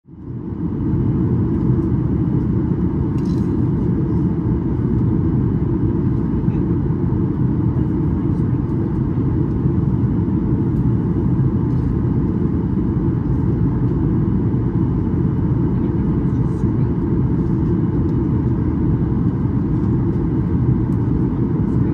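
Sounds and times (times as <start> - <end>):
airliner cabin roar: 0.2 - 21.9.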